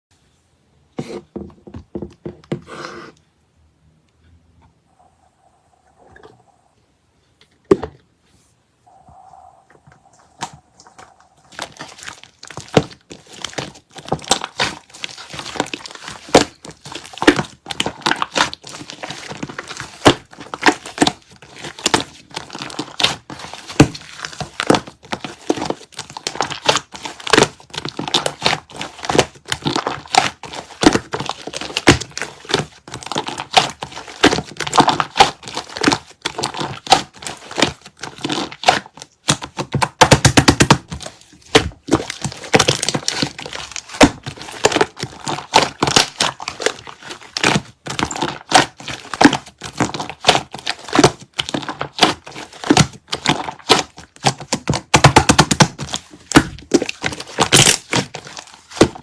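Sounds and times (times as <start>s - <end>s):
crinkling and crackling: 8.3s - 59.0s.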